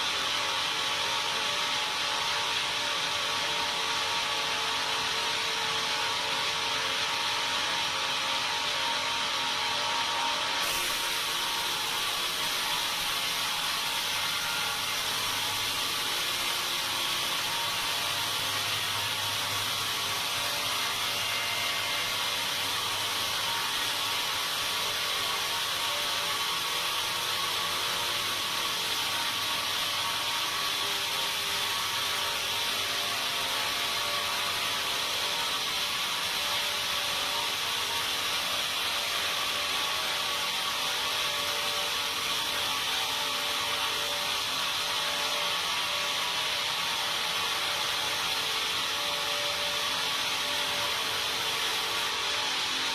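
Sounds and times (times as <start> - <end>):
sawmill saw cutting timber: 0.0 - 52.9.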